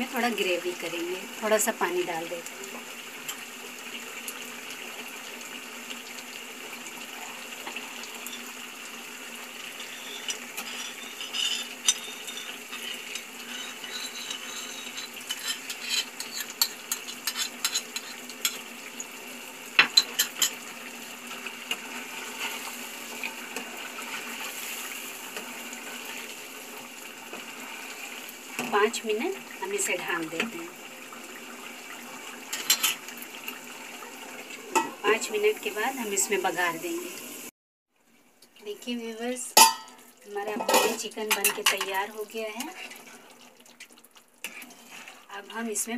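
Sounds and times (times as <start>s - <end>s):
food sizzling in frying pan: 0.0s - 37.5s, 38.2s - 45.9s.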